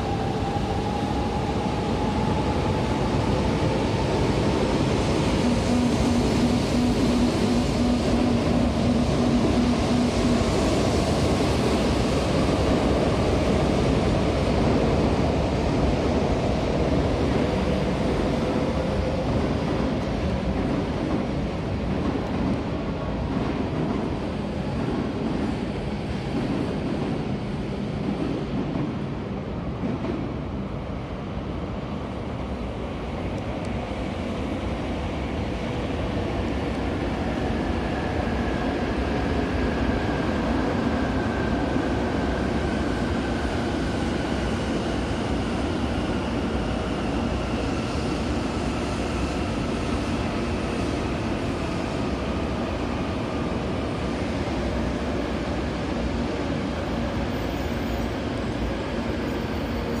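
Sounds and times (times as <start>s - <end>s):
train rumbling: 0.0s - 60.0s.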